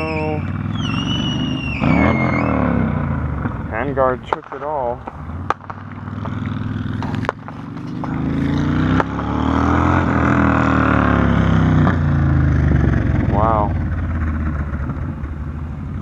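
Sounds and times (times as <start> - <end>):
off-road vehicle engine approaching: 0.0 - 16.0.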